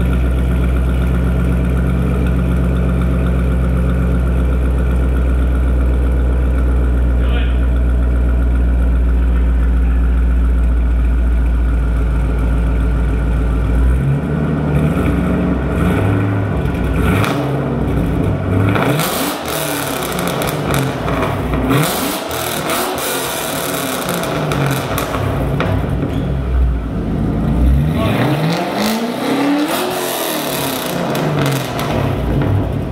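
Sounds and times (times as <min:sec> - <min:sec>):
car engine idling and revving: 0:00.0 - 0:32.9.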